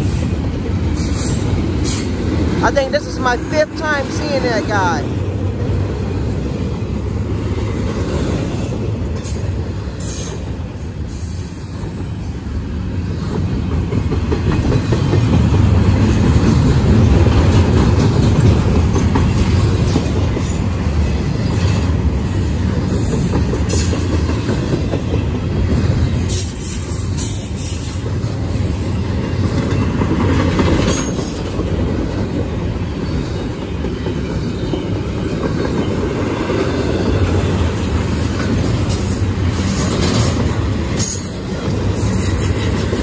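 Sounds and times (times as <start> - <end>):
train rolling past rumble: 0.0 - 43.0.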